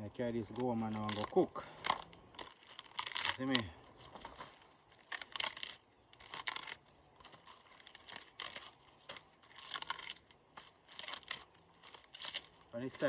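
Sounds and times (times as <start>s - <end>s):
cabbage leaves rustling and tearing: 0.0s - 13.0s.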